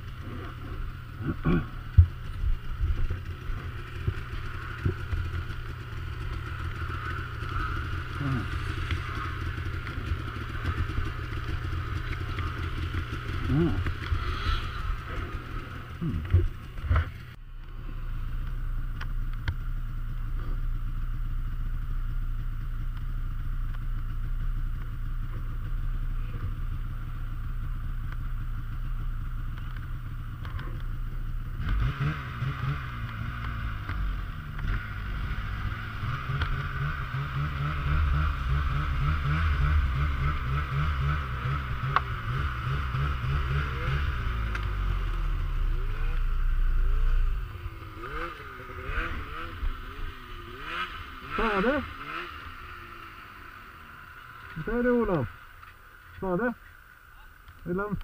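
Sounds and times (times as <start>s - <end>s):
snowmobile engine running: 0.0s - 56.6s.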